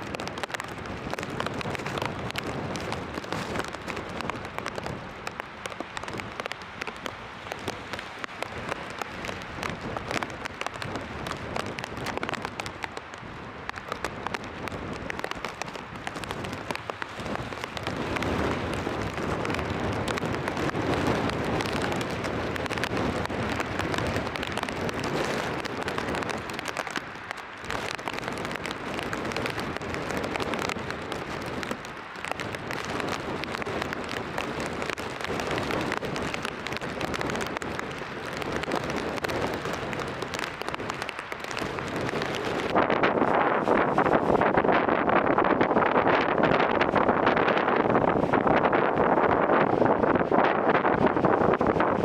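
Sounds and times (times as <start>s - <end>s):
rain: 0.0s - 52.0s
wind on microphone: 0.0s - 52.0s.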